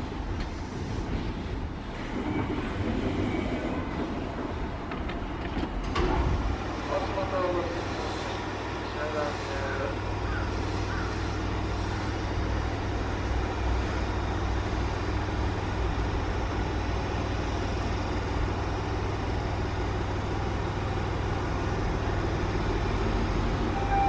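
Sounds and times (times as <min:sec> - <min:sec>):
train equipment humming and hissing: 0:00.0 - 0:24.0.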